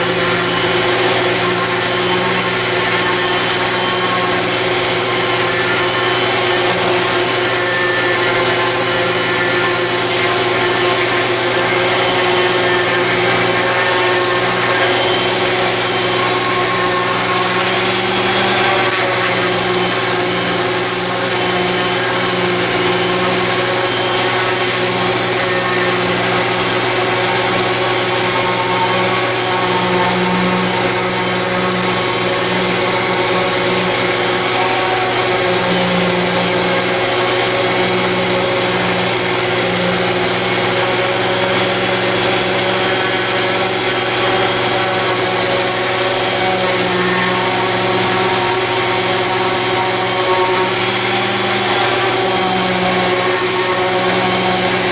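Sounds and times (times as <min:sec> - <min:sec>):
sander motor whine: 0:00.0 - 0:54.9
sanding pad hissing on wood: 0:00.0 - 0:54.9.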